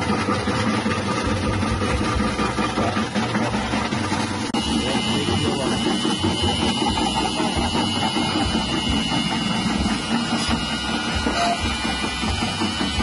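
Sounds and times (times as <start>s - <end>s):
slicing machine motor running: 0.0s - 13.0s.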